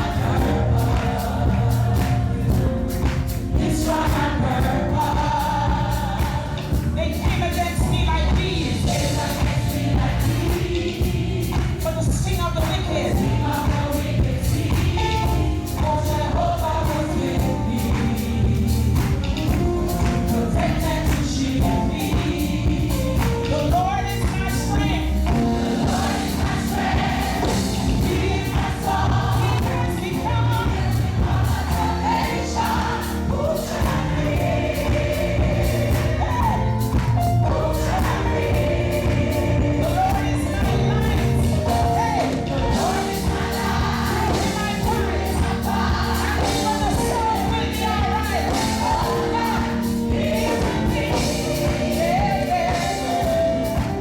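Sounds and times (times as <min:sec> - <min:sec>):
band with drums and bass: 0:00.0 - 0:54.0
choir singing: 0:00.0 - 0:54.0.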